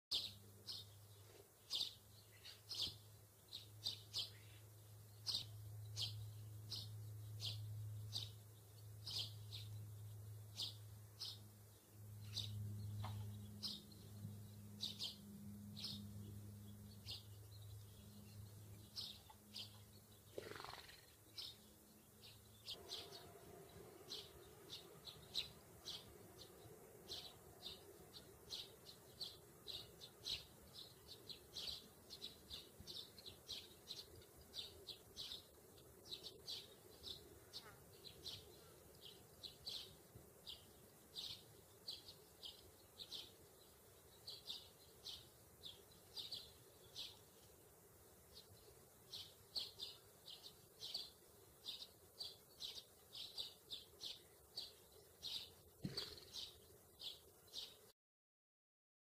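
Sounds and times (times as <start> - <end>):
songbird chirping: 0.1 - 57.9
low steady hum: 0.2 - 20.4, 21.0 - 52.4.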